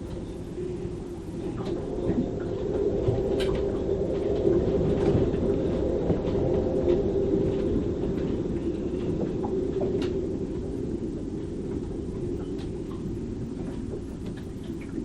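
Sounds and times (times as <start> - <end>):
wind howling in rigging: 0.0 - 15.0.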